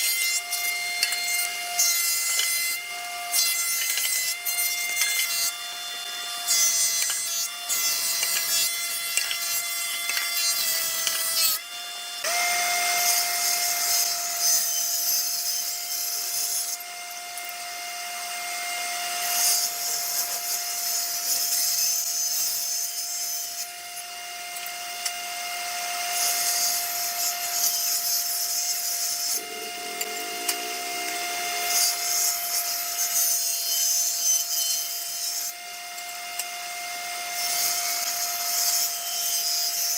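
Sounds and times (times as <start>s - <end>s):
electric power tool whining: 0.0s - 39.9s.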